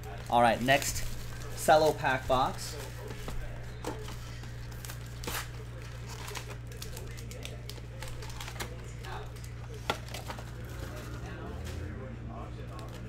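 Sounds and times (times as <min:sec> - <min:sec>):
card packs being handled: 0:00.0 - 0:13.0
steady low hum: 0:00.0 - 0:13.0.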